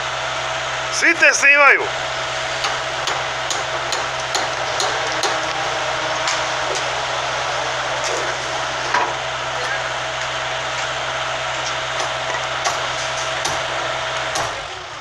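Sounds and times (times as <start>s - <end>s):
excavator engine humming: 0.0s - 15.0s
metallic knocks and clanks: 2.1s - 14.7s.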